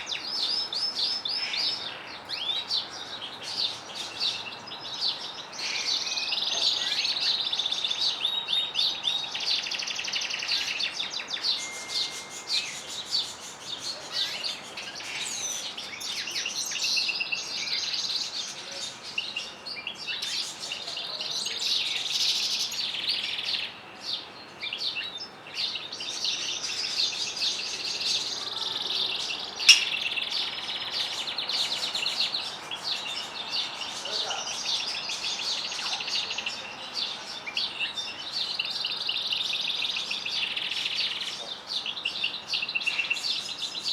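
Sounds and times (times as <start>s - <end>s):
songbirds trilling and twittering: 0.0s - 43.9s.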